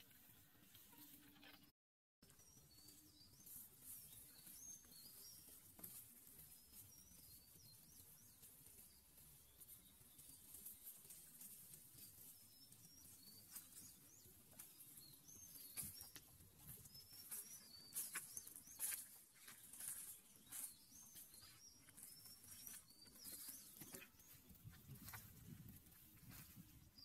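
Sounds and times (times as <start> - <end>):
small birds chirping: 2.2 - 27.0
dry leaves crackling underfoot: 3.0 - 26.6.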